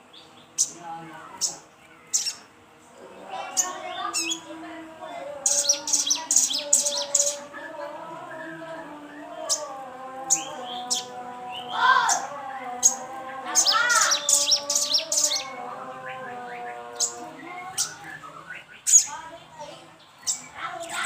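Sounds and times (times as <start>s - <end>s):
songbird singing: 0.0s - 21.0s
steady layered hum: 0.0s - 21.0s.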